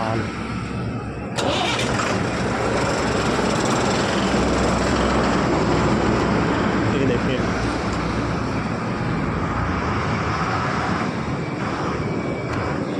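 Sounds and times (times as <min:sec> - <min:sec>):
trucks passing on road: 0:00.0 - 0:12.9.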